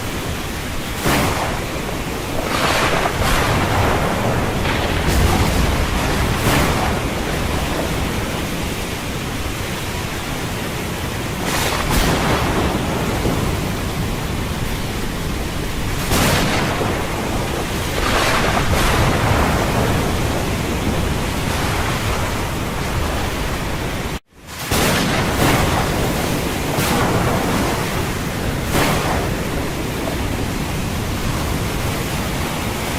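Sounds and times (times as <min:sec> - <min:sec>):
rush of wind and water: 0:00.0 - 0:32.9
waves crashing: 0:00.0 - 0:32.9.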